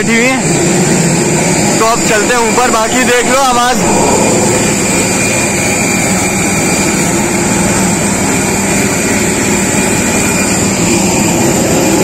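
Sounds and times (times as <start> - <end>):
jet turbine roaring and whining: 0.0 - 12.0.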